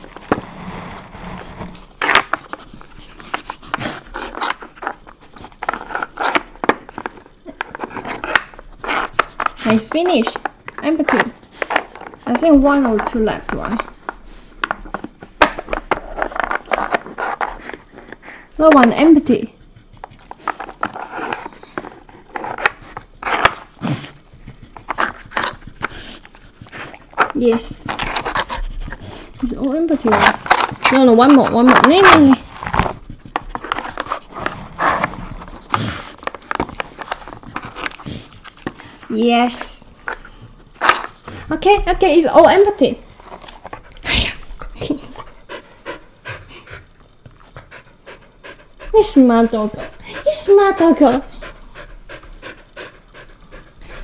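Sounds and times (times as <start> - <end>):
dog sniffing: 0.0 - 12.8, 16.0 - 54.0.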